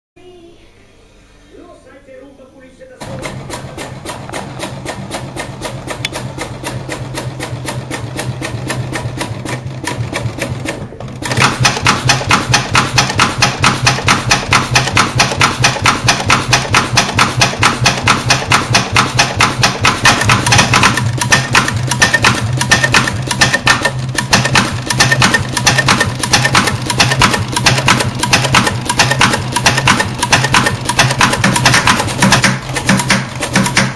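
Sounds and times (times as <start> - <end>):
sewing machine stitching: 3.0 - 33.9.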